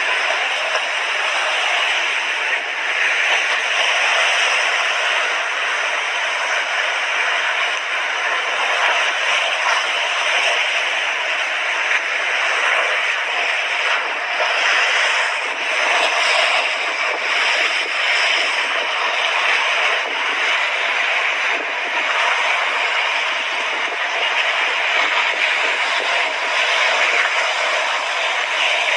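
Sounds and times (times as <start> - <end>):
sea waves washing on shore: 0.0 - 28.9.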